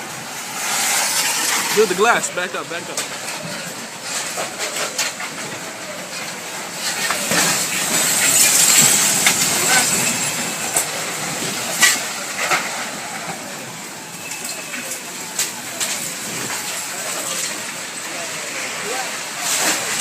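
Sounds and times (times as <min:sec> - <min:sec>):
tornado winds rumbling: 0:00.0 - 0:20.0
debris and glass cracking: 0:00.4 - 0:20.0.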